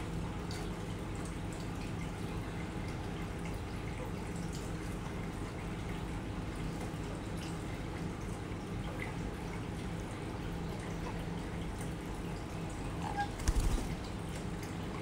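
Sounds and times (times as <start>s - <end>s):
aquarium filter hum: 0.0s - 15.0s
water trickling and dripping: 0.0s - 15.0s.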